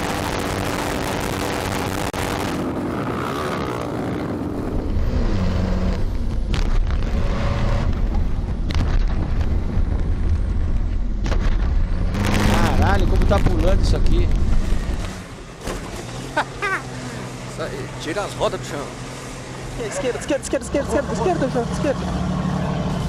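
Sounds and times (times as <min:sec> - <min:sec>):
rally car engine drone: 0:00.0 - 0:23.0
wind and road noise: 0:00.0 - 0:23.0.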